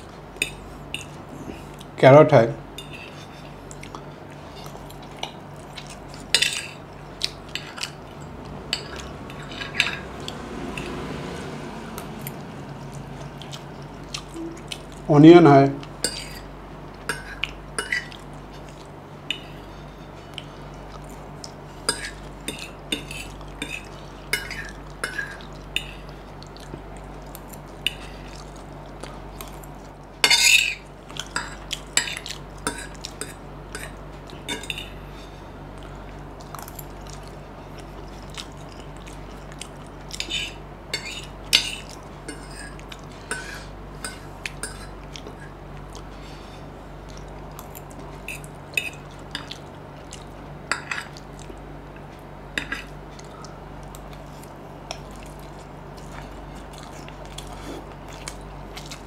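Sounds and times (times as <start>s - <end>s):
person eating: 2.9s - 15.1s, 15.8s - 59.0s.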